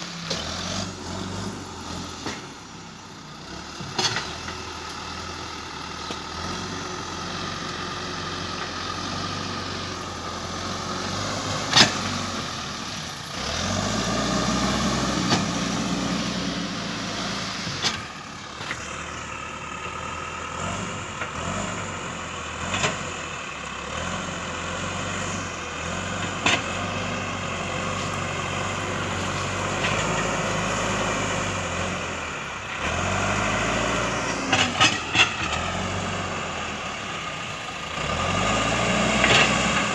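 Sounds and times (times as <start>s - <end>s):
backhoe diesel engine working: 0.0s - 39.9s.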